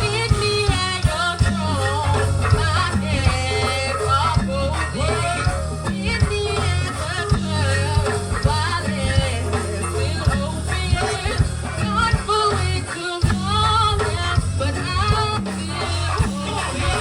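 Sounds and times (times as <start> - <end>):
gospel band playing: 0.0 - 17.0
person singing: 0.0 - 17.0.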